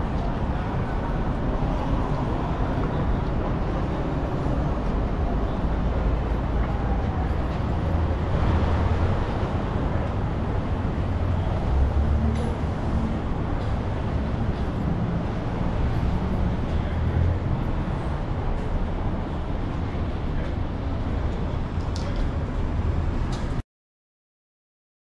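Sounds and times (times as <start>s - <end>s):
heavy low traffic rumble: 0.0s - 23.6s
passing vehicles hum: 0.0s - 23.6s.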